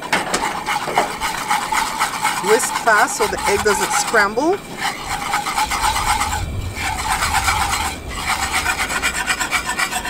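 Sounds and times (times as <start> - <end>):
whisk scraping metal pan: 0.0 - 10.0.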